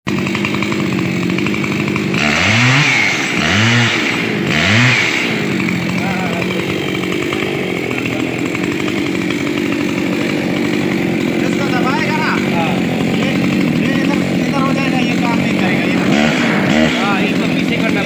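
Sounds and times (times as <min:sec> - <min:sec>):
chainsaw engine revving: 0:00.1 - 0:18.0.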